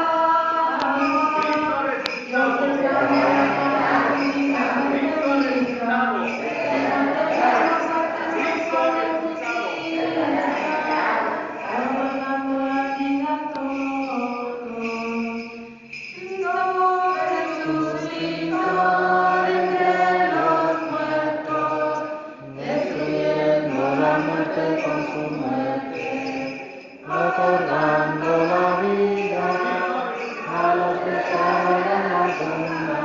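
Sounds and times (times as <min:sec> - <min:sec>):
voices chanting a hymn: 0:00.0 - 0:33.0.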